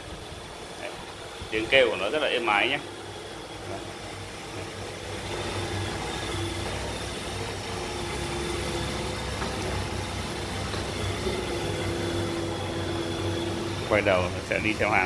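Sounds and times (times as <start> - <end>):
robot vacuum motor hum: 0.0 - 15.0.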